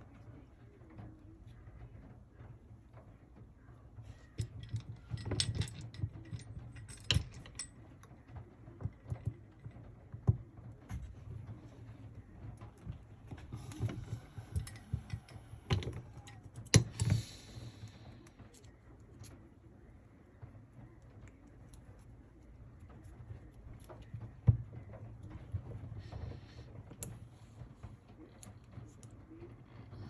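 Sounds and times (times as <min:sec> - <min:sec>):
small parts clicking and tapping: 0:04.0 - 0:30.0.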